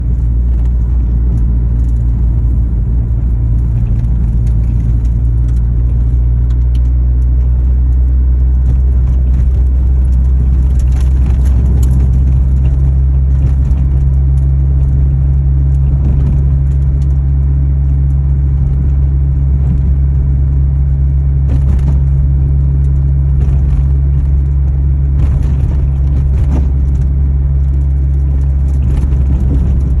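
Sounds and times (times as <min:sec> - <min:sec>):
car engine idling: 0:00.0 - 0:30.0
faint exhaust rattles: 0:00.0 - 0:30.0.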